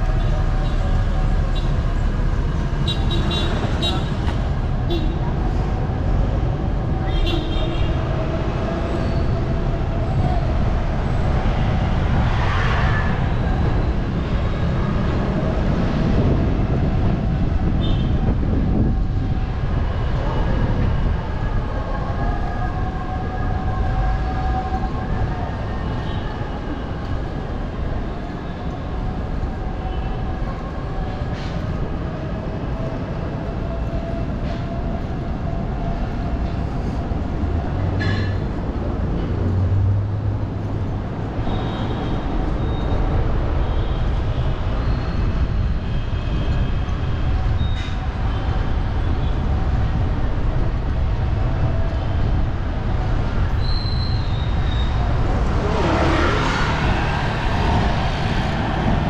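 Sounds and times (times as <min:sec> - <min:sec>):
low rumble of traffic: 0:00.0 - 0:59.0.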